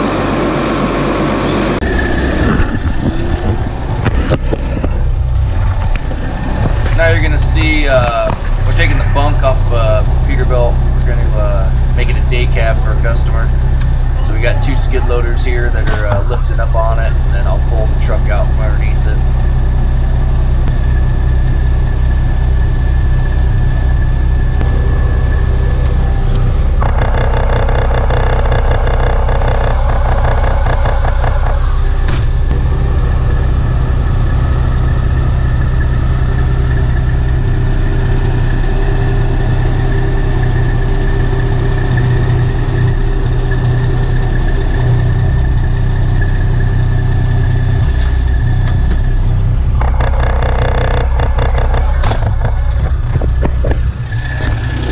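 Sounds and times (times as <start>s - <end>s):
harsh engine rattling: 0.0s - 54.9s
skid steer loader working: 0.0s - 54.9s
truck diesel engine idling: 0.0s - 54.9s.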